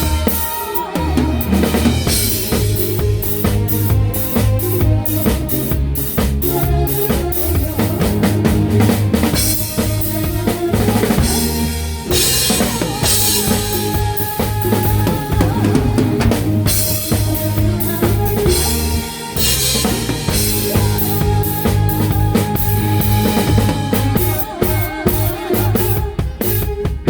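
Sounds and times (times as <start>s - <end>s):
drum kit: 0.0s - 27.0s
live band playing: 0.0s - 27.0s.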